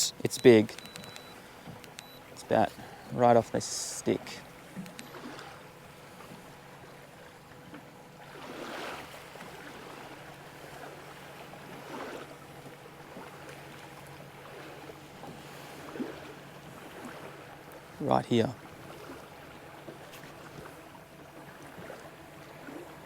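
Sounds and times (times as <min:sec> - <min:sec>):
water lapping against boat hull: 0:00.0 - 0:23.0.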